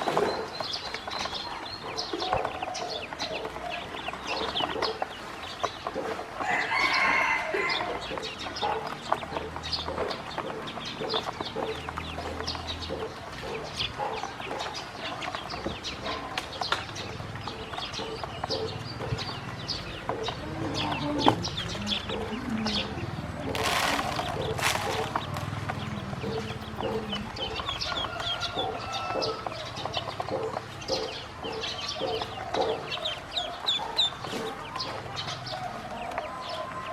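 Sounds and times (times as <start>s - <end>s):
ducklings peeping: 0.0s - 36.9s.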